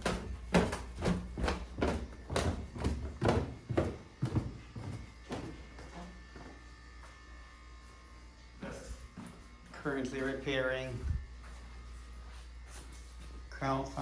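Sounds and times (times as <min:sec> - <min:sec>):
low buzzing hum: 0:00.0 - 0:14.0.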